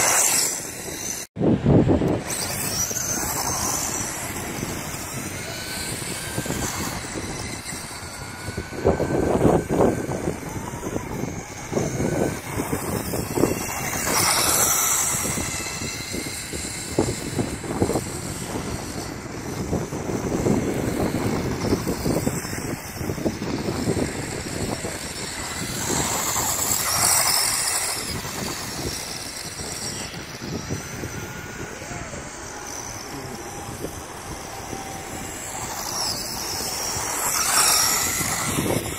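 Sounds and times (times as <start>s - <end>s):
rc car motor whir: 0.0s - 38.9s
wind buffeting microphone: 0.0s - 38.9s.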